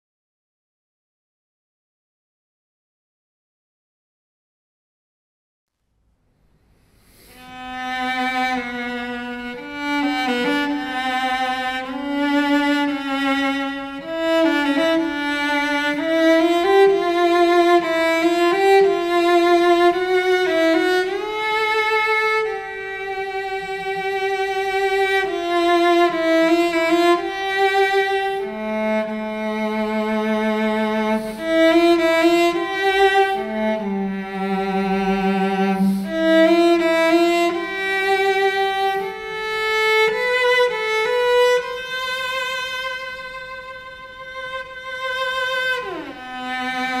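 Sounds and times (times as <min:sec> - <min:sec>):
bowed cello melody: 0:07.1 - 0:47.0.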